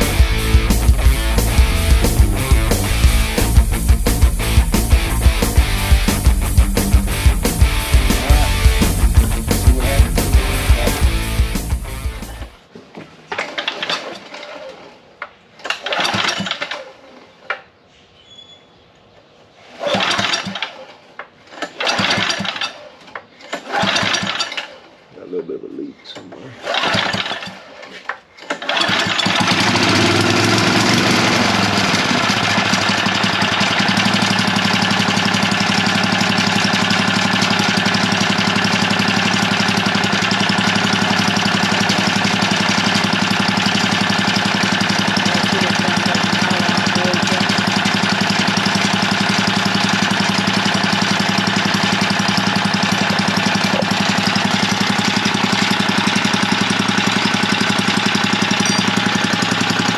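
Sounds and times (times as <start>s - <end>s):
edger engine starting and running: 0.0s - 12.7s, 13.3s - 17.6s, 19.6s - 59.9s.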